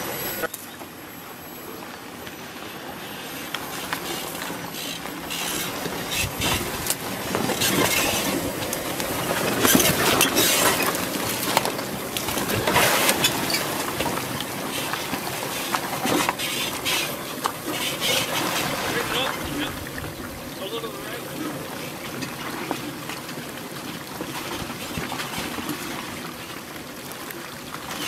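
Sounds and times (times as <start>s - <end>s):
tyres crunching over gravel: 0.0s - 28.0s.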